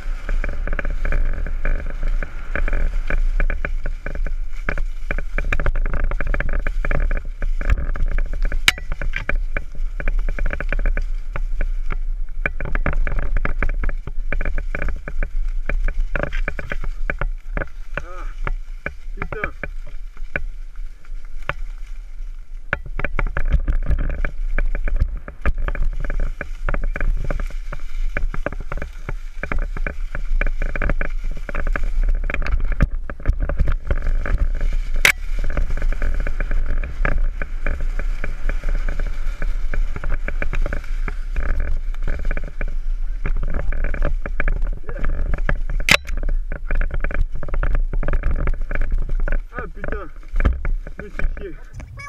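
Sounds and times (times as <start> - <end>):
bike rattling clicks: 0.0 - 52.0
bike tyre noise: 0.0 - 52.0
wind buffeting microphone: 0.0 - 52.0.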